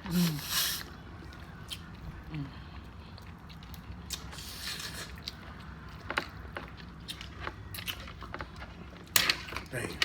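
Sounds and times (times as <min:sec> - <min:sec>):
chewing and biting: 0:00.1 - 0:09.8.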